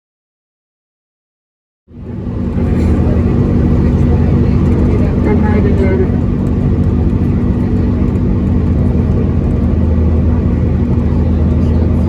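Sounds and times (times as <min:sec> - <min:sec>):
road noise: 0:01.9 - 0:12.0
vehicle engine drone: 0:01.9 - 0:12.0.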